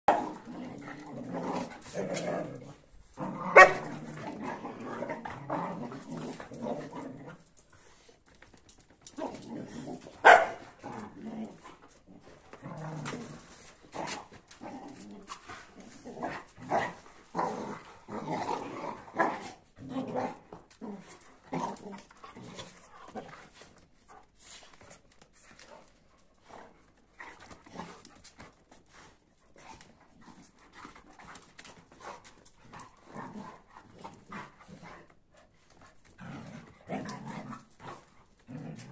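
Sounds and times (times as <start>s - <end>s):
dogs growling and barking: 0.1s - 38.9s.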